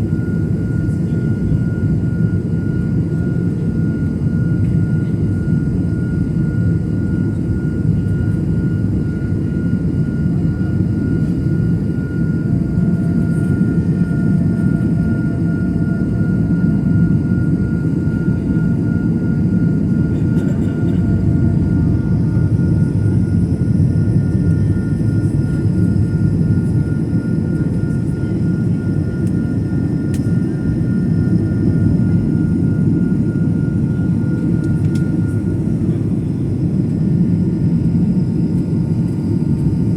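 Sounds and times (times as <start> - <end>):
airliner cabin engine rumble: 0.0 - 39.9
faint high whine: 0.1 - 39.7.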